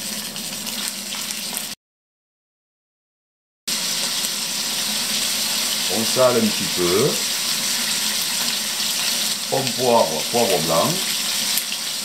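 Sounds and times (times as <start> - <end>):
scallops sizzling in oil: 0.0 - 1.8, 3.7 - 12.0.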